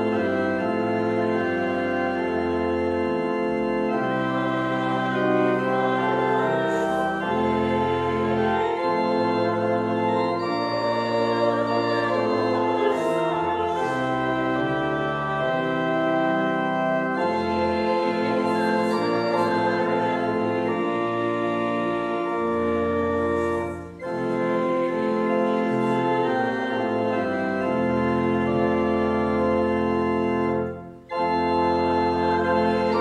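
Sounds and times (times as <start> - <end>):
church organ playing a hymn: 0.0 - 33.0.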